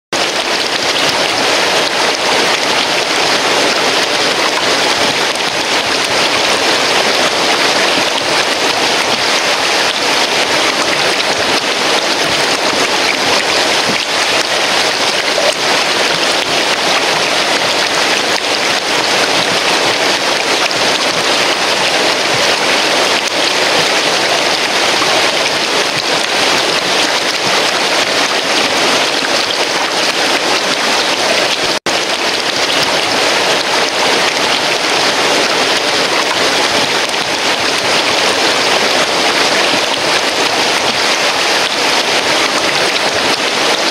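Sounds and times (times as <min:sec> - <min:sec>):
rushing stream and waterfall: 0:00.1 - 0:43.9.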